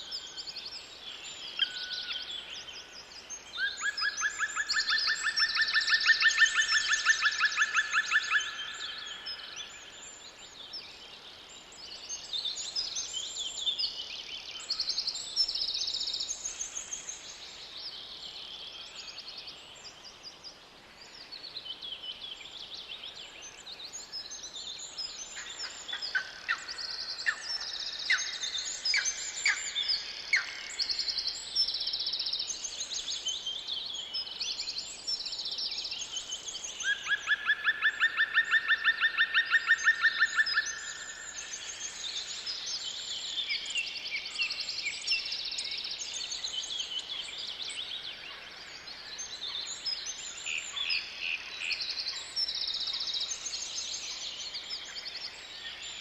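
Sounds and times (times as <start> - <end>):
faint background hiss: 0.0 - 56.0
songbirds singing: 0.0 - 56.0.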